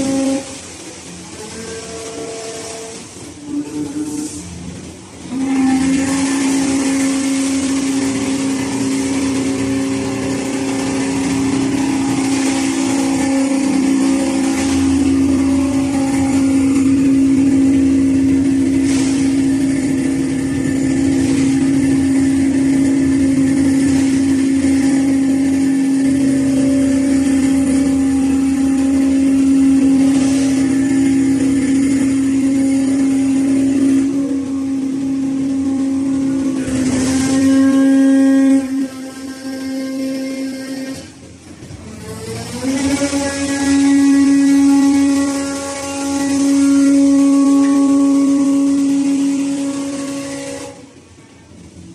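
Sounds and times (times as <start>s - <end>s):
hydraulic machine humming: 0.0s - 51.9s.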